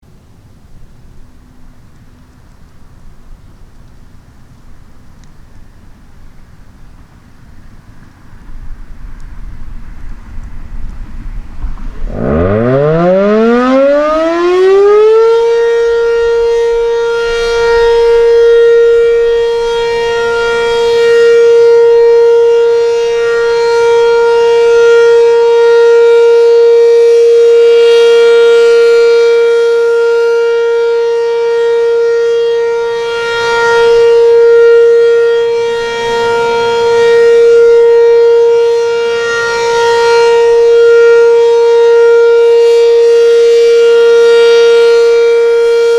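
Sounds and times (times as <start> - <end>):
warning siren steady tone: 7.2 - 45.9.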